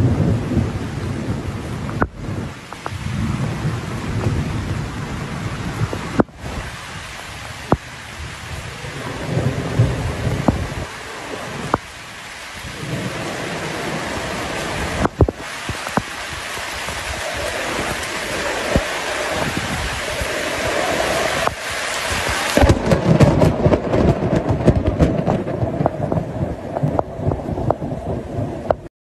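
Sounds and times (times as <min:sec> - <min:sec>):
surf: 0:00.0 - 0:28.9
wind buffeting microphone: 0:00.0 - 0:28.9.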